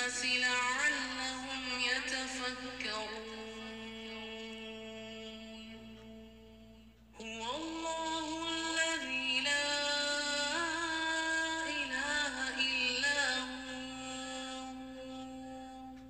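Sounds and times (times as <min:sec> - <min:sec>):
person chanting: 0:00.0 - 0:16.0.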